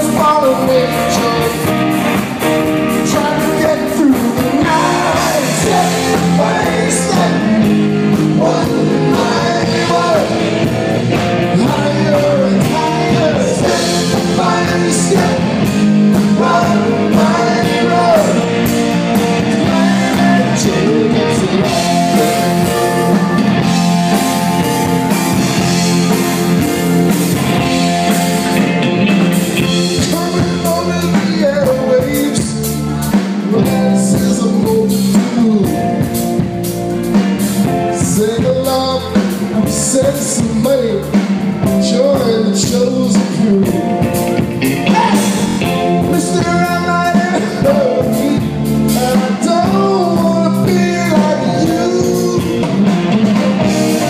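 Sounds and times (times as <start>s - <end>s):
electric guitar lead bending notes: 0.0s - 54.0s
live rock band playing: 0.0s - 54.0s.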